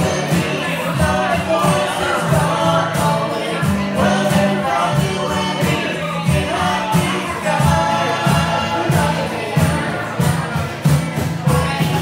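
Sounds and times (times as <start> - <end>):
box drum beat: 0.0 - 12.0
person singing into a microphone: 0.0 - 12.0
strummed acoustic guitar: 0.0 - 12.0.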